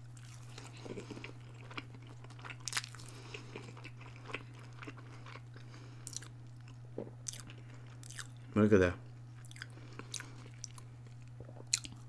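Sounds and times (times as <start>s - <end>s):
low electrical hum: 0.0s - 12.0s
chewing crunches: 0.1s - 8.4s, 9.2s - 12.0s.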